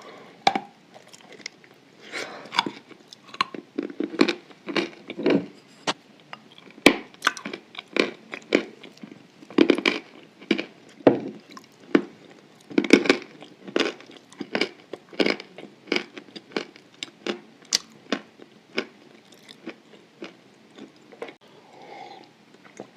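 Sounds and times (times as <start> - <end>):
chewing and crunching: 0.9 - 1.8, 2.4 - 5.6, 6.2 - 21.4.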